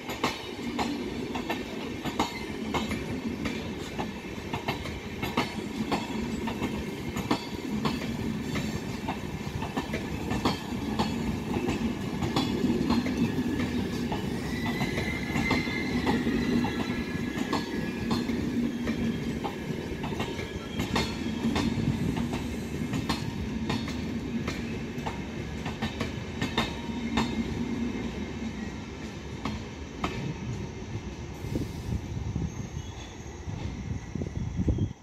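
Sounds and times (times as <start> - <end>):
train wheels clicking over rail joints: 0.0 - 28.3, 29.0 - 30.6
train rumble: 0.0 - 35.0.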